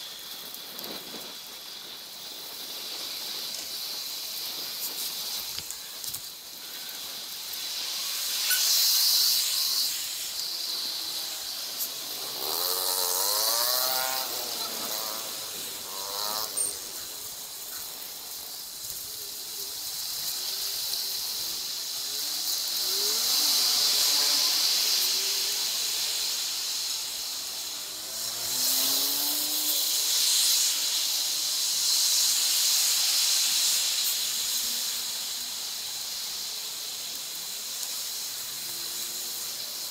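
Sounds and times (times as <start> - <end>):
wind hiss on microphone: 0.0 - 39.9.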